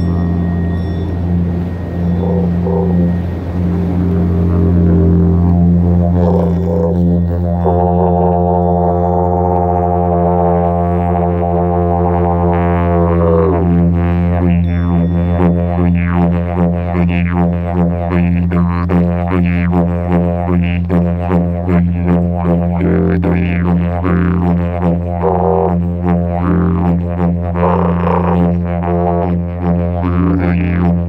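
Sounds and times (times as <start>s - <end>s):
low drone music: 0.0s - 31.0s.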